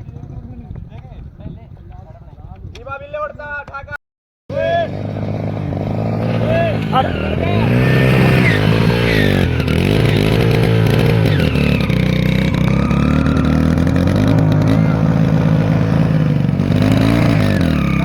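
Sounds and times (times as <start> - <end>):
motorcycle engine running hard: 0.0 - 1.8, 4.5 - 18.0.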